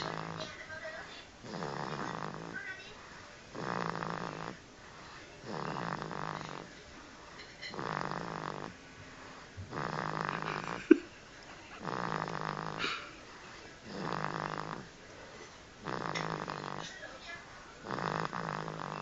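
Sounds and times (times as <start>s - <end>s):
baby snoring: 0.0s - 0.6s, 1.4s - 11.0s, 11.8s - 19.0s.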